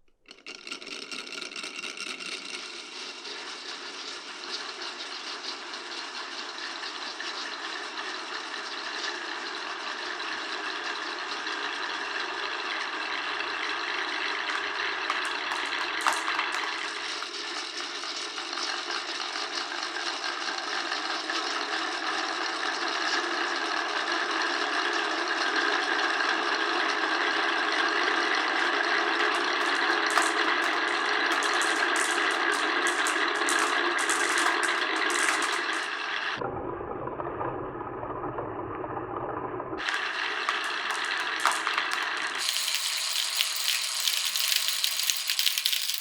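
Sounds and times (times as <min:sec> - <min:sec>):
marbles rolling rattle: 0:00.2 - 0:22.4, 0:27.4 - 0:36.4, 0:39.8 - 0:46.0.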